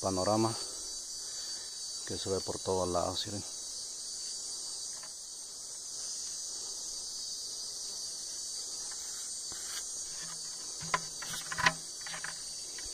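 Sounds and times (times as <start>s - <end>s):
high-pitched insect chorus: 0.0s - 12.9s.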